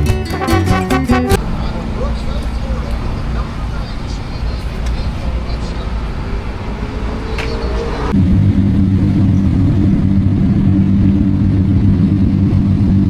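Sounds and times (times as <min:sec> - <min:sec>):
low engine drone: 0:00.6 - 0:13.0
race car engine: 0:01.2 - 0:13.0.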